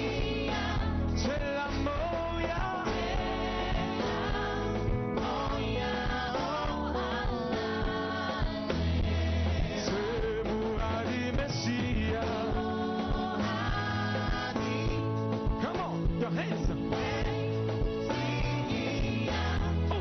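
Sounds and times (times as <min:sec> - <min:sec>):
person singing over a band: 0:00.0 - 0:20.0.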